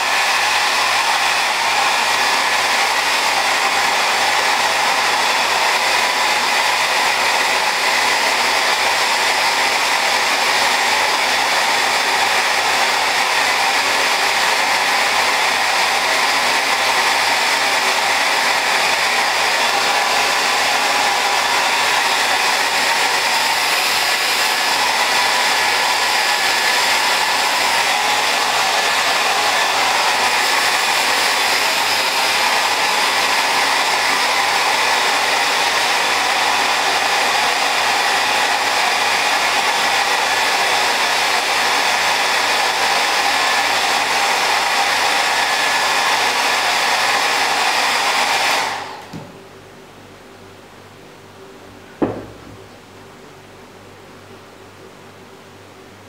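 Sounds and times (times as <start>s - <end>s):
electric hair dryer blowing: 0.0s - 49.4s, 52.0s - 52.7s.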